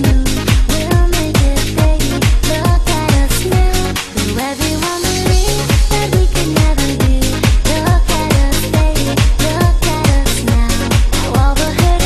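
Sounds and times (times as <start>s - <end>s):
kick-drum beat: 0.0s - 4.2s, 4.9s - 12.0s.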